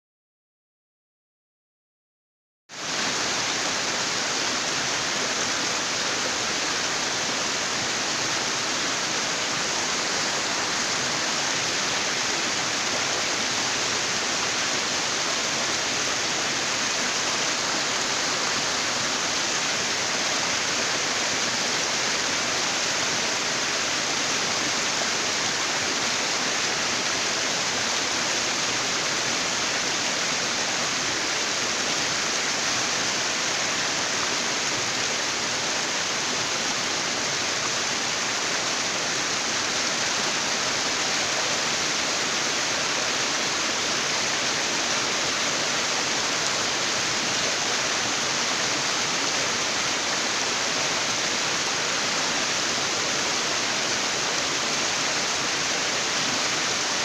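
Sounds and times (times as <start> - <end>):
waterfall rushing: 2.8 - 57.0.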